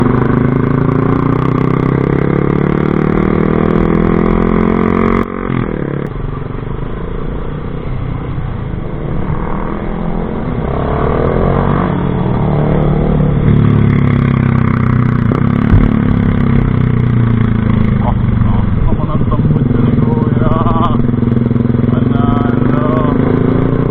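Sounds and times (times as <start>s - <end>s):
motorcycle engine revving: 0.0s - 6.3s, 7.6s - 23.9s.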